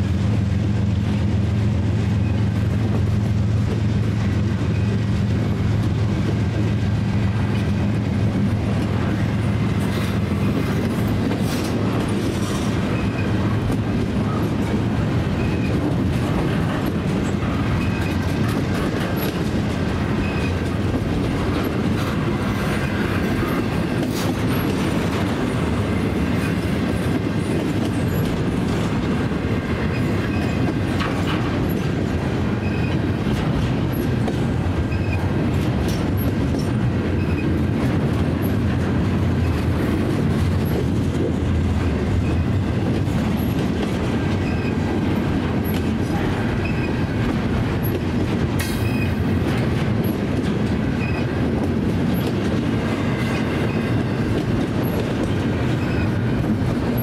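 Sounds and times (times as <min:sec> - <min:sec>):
rumble of steel wheels on rail: 0:00.0 - 0:57.0
train wheels clicking over rail joints: 0:00.0 - 0:57.0.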